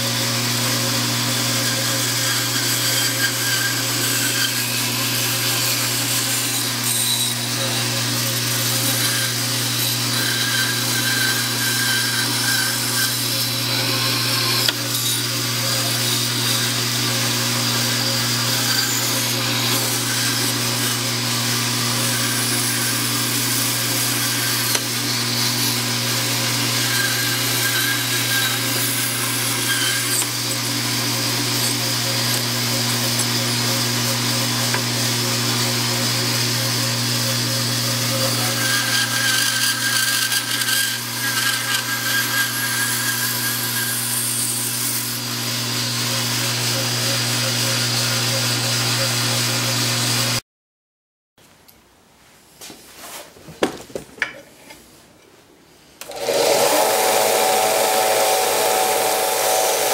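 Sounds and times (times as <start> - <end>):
band saw cutting wood: 0.0 - 50.4, 56.0 - 59.9.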